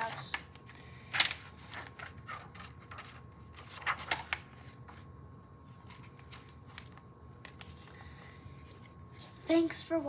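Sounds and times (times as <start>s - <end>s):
book pages turning: 0.0s - 9.4s.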